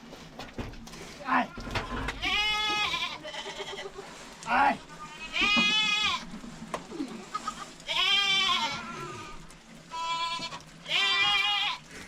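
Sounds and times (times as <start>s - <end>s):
goats bleating: 1.2s - 12.0s.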